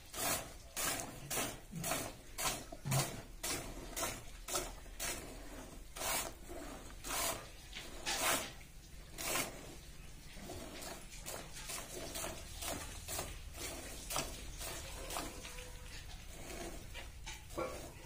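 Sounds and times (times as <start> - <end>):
milk squirting into a bucket: 0.0 - 18.0.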